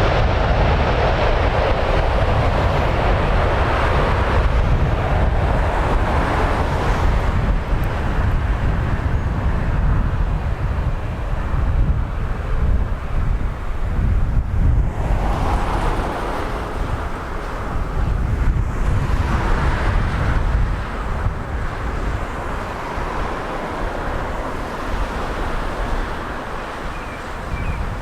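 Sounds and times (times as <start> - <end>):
gusty wind buffeting microphone: 0.0 - 28.0.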